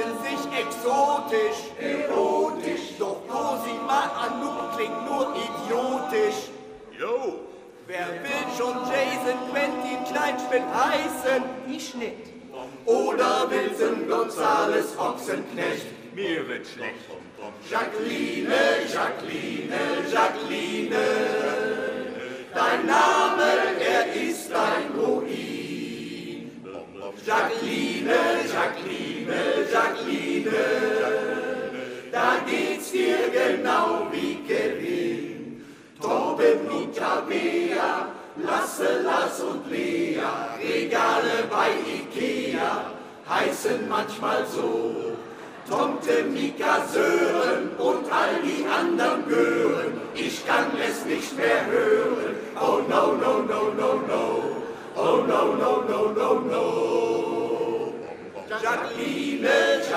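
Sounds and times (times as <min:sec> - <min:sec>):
male choir singing: 0:00.0 - 0:07.0, 0:07.8 - 0:11.9, 0:12.5 - 0:59.9.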